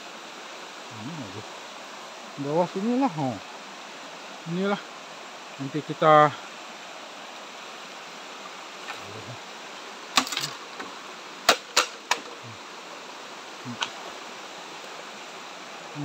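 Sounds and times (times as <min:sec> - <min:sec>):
rocky stream running: 0:00.0 - 0:16.0.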